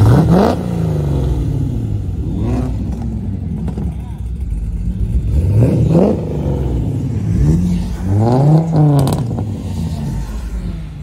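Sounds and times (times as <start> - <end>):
car engine revving: 0.0 - 11.0
engine crackle: 0.0 - 11.0.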